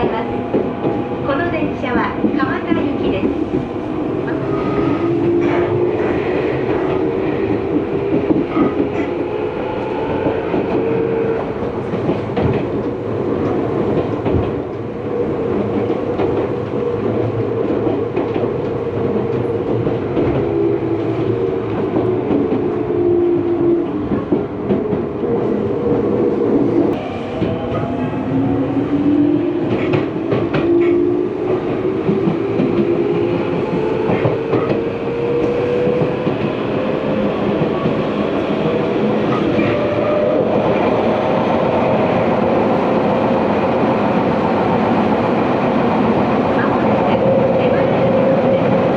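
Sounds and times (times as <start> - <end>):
wheels clacking on rails: 0.0 - 48.9.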